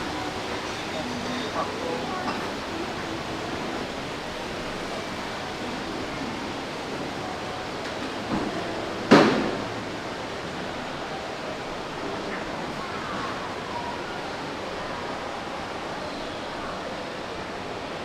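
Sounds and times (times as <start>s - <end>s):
shopping mall background noise: 0.0s - 18.0s.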